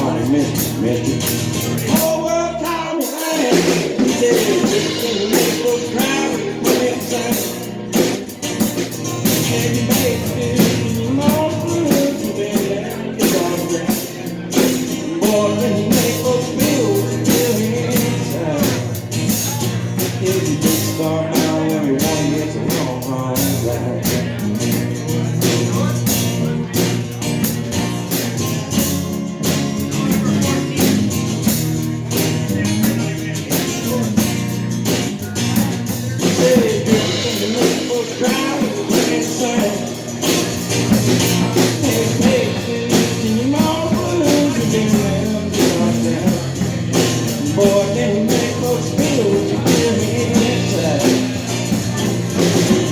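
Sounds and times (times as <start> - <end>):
guitar: 0.0 - 52.9
live blues-rock band playing: 0.0 - 52.9
steady drum beat: 0.0 - 52.9.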